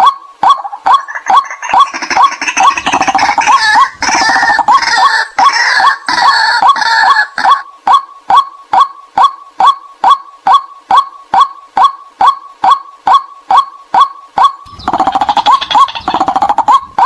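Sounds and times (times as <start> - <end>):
harsh overlapping bird calls: 0.0 - 17.0
waterhens calling: 0.0 - 17.0.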